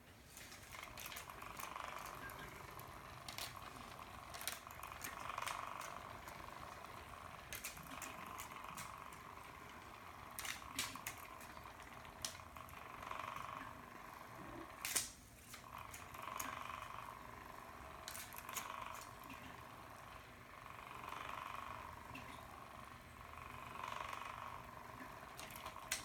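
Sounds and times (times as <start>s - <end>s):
small motor whirring: 0.3s - 26.0s.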